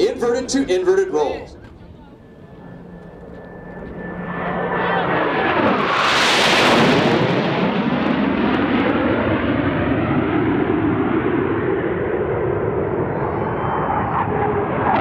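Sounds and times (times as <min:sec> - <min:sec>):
jets passing low: 0:00.0 - 0:15.0.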